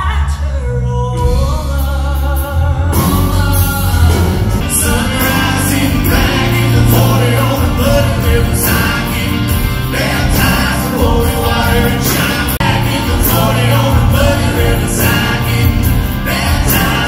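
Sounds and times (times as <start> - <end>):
drums: 0.0 - 17.0
live band playing pop song: 0.0 - 17.0
guitars: 1.2 - 17.0.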